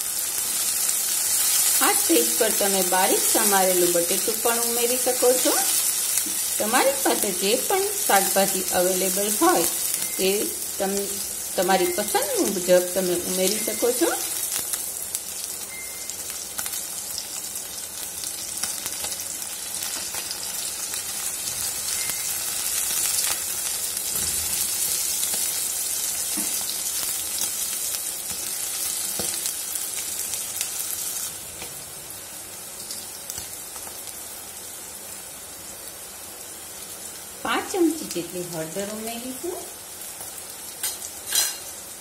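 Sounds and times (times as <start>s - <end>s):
vegetables sizzling in hot oil: 0.0s - 42.0s.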